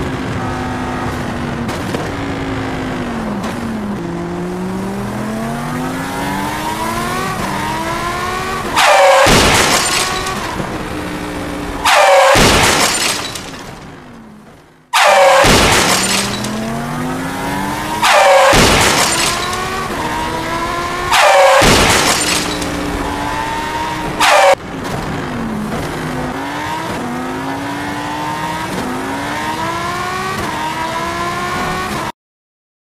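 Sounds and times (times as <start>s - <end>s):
car engine accelerating: 0.0s - 13.6s, 14.4s - 32.1s.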